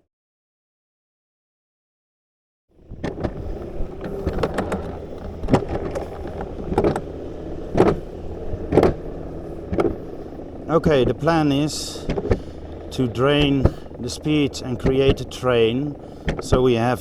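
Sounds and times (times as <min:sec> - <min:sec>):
coaster sled rumbling on track: 0:02.8 - 0:17.0
sharp clacks of sled on track: 0:02.8 - 0:17.0.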